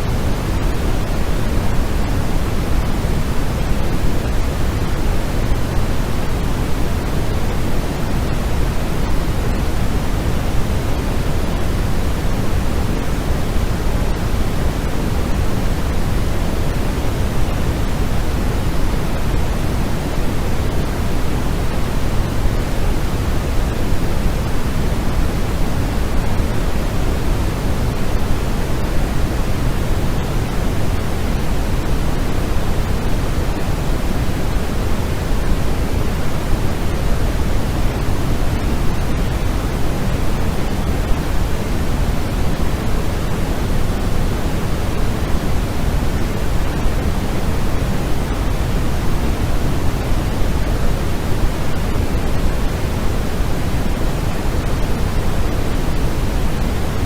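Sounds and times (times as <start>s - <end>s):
steady low pink noise hiss: 0.0s - 57.0s.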